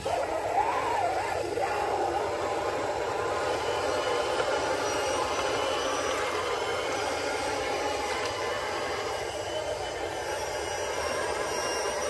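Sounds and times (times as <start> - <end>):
toy truck motor whirring: 0.0 - 12.0.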